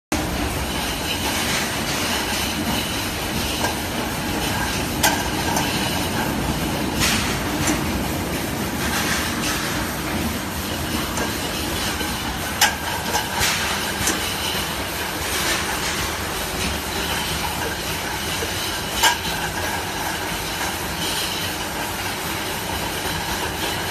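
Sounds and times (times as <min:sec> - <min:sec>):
filling line mechanical clatter: 0:00.1 - 0:23.9.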